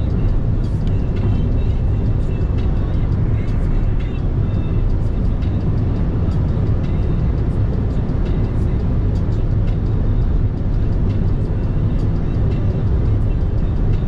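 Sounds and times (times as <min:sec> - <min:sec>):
road and engine rumble in car: 0:00.0 - 0:14.0.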